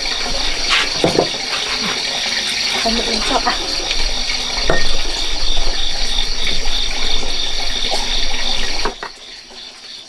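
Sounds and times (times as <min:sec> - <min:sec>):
loud pulsing high-pitched hiss: 0:00.0 - 0:10.0.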